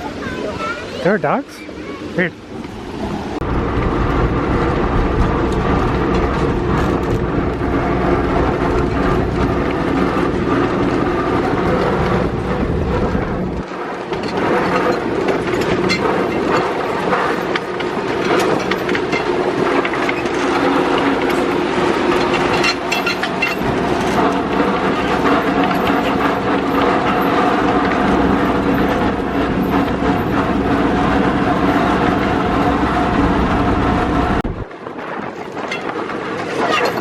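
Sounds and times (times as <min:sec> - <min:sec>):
low rumble: 0:02.5 - 0:13.7, 0:14.4 - 0:34.7
train wheels rattling and clicking: 0:03.8 - 0:34.4, 0:35.0 - 0:37.0.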